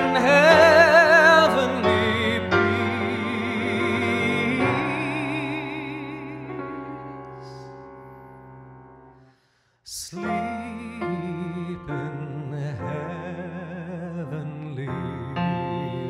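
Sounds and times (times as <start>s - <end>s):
man singing with vibrato: 0.0s - 7.8s, 9.9s - 16.0s
grand piano ballad: 0.0s - 16.0s.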